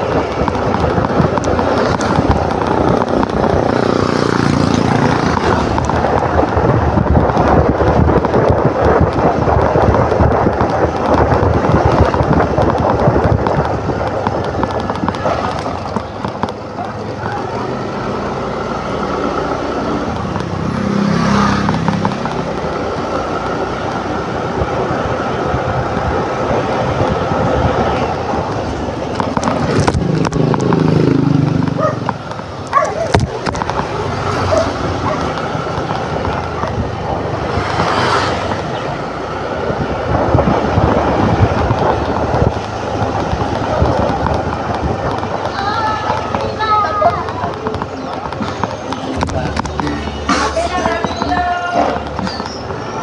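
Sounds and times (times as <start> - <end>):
passing traffic: 0.0 - 53.0
road noise: 0.0 - 53.0
scooter engine running: 0.0 - 53.0
wind buffeting microphone: 0.0 - 53.0.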